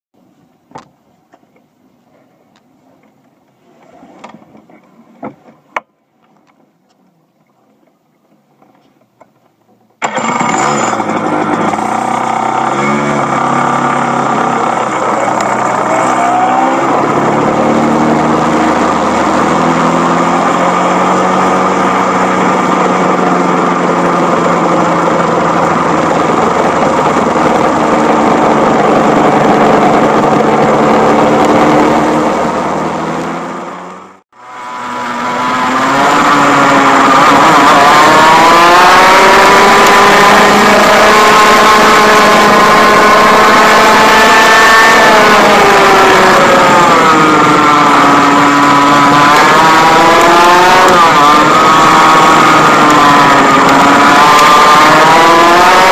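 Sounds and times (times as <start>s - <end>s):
kart engine revving: 10.0s - 55.9s.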